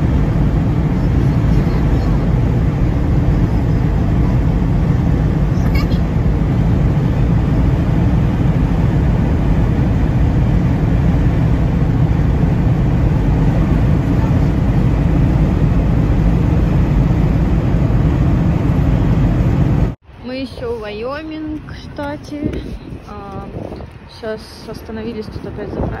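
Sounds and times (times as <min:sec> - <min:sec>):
car cabin road and engine noise: 0:00.0 - 0:26.0.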